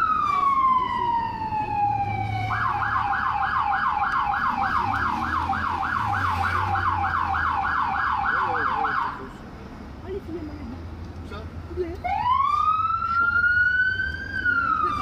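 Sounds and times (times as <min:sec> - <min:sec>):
police siren yelping: 0:00.0 - 0:09.2, 0:12.1 - 0:15.0.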